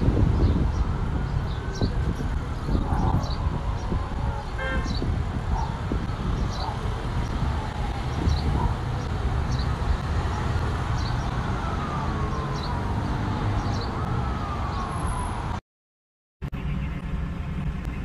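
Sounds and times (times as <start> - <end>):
emergency siren wailing: 0.0 - 15.6.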